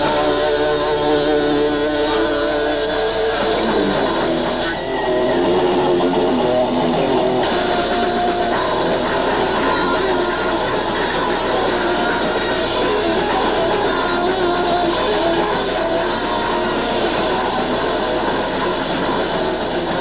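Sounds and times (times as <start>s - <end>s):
death metal band playing: 0.0s - 20.0s.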